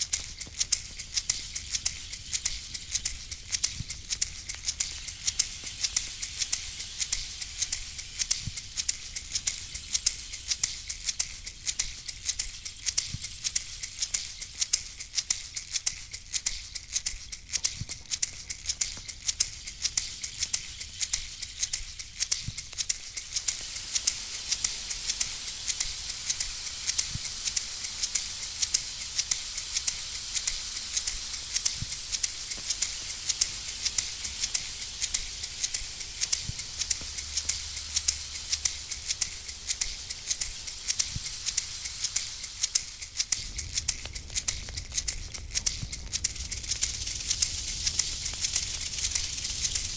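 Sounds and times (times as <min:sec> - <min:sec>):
shaker rattle shaken rapidly: 0:00.0 - 0:49.9.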